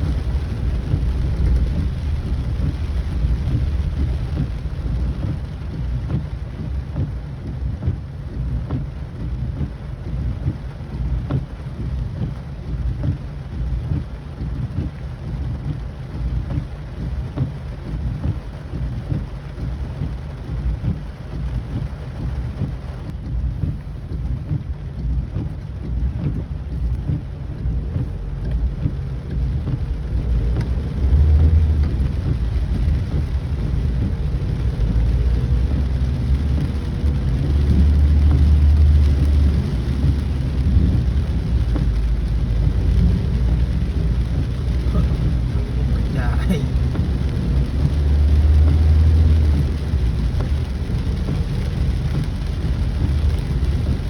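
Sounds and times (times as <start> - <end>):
heavy rain: 0.0 - 54.0
low rumble: 0.0 - 54.0.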